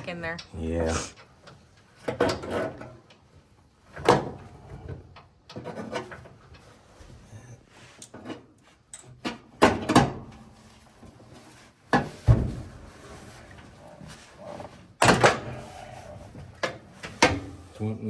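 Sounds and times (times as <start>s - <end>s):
tools and parts clunking: 1.2s - 7.0s, 7.9s - 13.8s, 14.6s - 17.6s.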